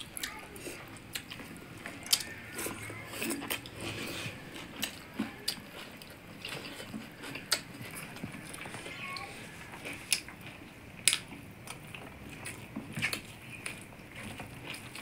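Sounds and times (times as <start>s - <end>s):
chewing with wet mouth smacks: 0.0s - 15.0s.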